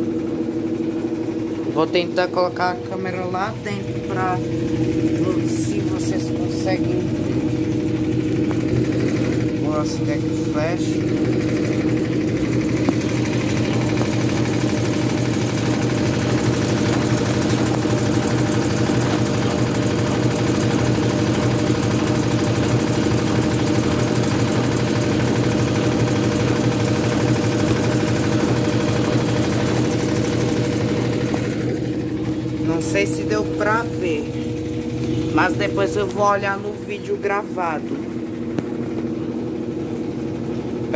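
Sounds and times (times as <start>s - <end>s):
washing machine humming: 0.0s - 40.9s.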